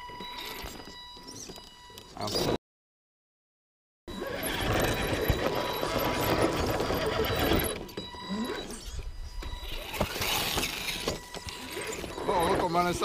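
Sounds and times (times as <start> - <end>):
electric motor and gearbox whirring: 0.0 - 2.6, 4.1 - 13.0.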